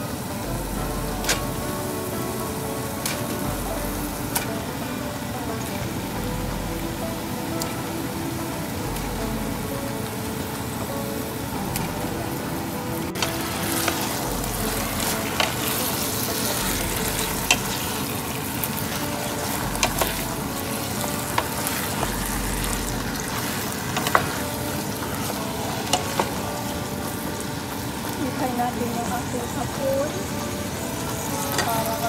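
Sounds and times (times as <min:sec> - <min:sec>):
chicken sizzling in a pot: 0:00.0 - 0:32.0.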